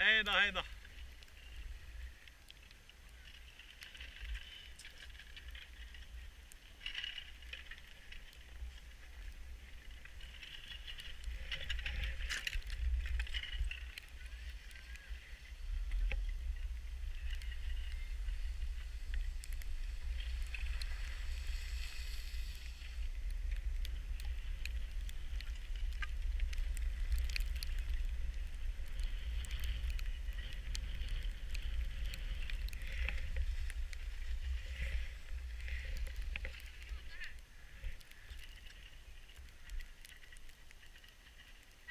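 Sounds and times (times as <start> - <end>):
skis sliding over snow: 0.0 - 41.9
wind rumbling on microphone: 0.0 - 41.9.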